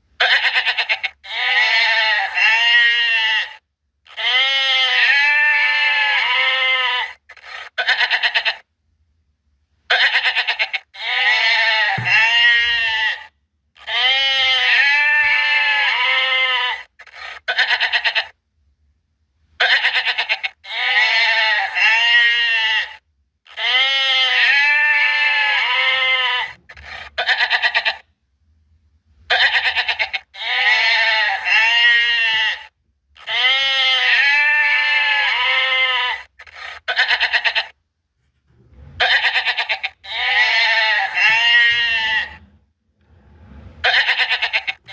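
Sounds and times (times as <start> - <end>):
goats bleating: 0.2 - 8.6, 9.9 - 18.4, 19.6 - 28.0, 29.3 - 37.8, 39.0 - 42.4, 43.8 - 44.9.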